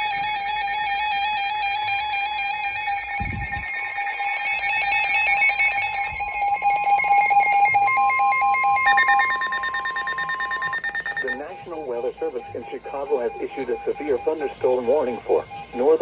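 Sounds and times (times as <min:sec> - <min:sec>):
steady alarm tone: 0:00.0 - 0:16.0
weather radio alert beeping: 0:02.4 - 0:16.0.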